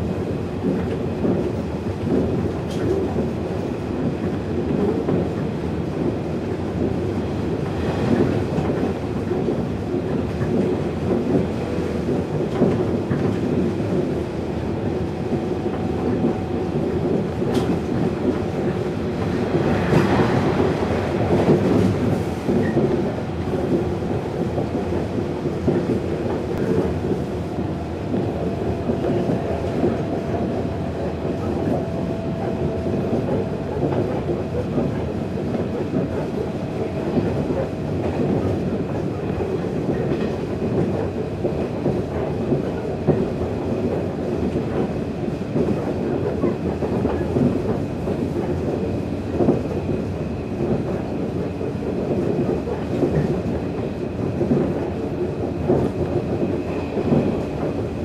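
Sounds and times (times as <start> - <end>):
wheels rumbling on rail: 0.0 - 58.0
clacks over rail joints: 0.1 - 58.0.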